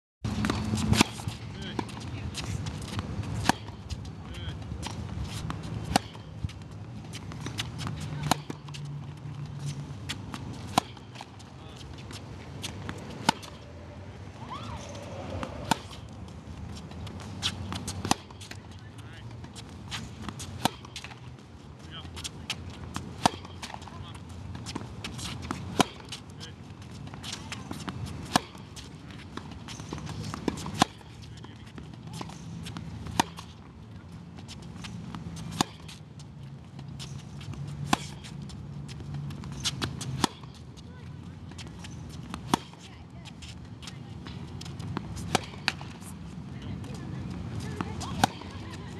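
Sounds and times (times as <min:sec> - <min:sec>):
racket hitting tennis ball: 0:00.3 - 0:18.6, 0:19.5 - 0:21.2, 0:22.1 - 0:36.0, 0:36.7 - 0:40.9, 0:41.5 - 0:48.9.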